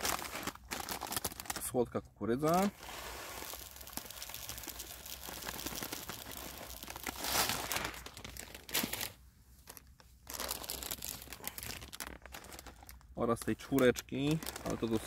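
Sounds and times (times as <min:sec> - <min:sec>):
plastic bag crinkling: 0:00.0 - 0:01.8, 0:02.4 - 0:15.0.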